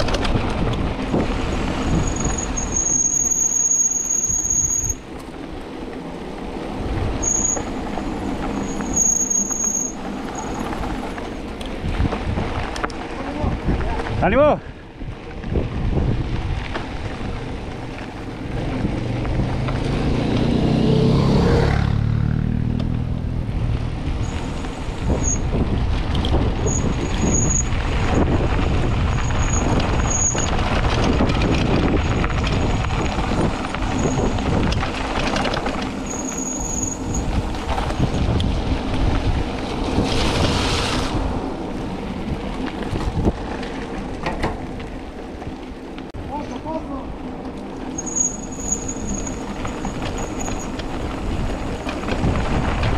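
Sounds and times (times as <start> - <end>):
wind rushing over microphone: 0.0 - 3.4, 4.2 - 9.1, 9.9 - 47.9, 48.7 - 52.9
tyres rolling on gravel: 0.0 - 21.2, 22.0 - 52.9
bike rattling over bumps: 0.0 - 52.9.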